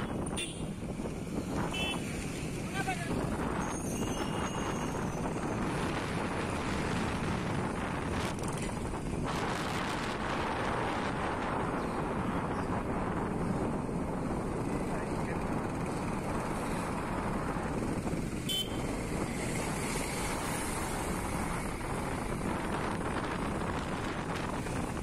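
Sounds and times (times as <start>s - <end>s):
motorbike engine and tyres: 0.0s - 25.0s
wind rush on microphone: 0.0s - 25.0s.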